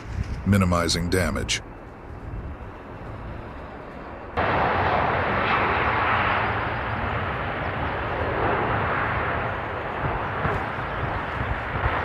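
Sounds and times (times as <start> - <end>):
jet airliner engine rushing: 0.0 - 12.0.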